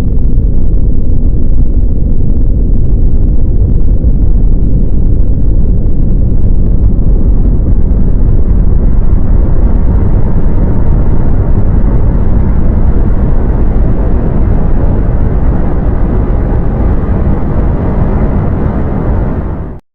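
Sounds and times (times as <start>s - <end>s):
deep continuous rumble: 0.0s - 19.8s.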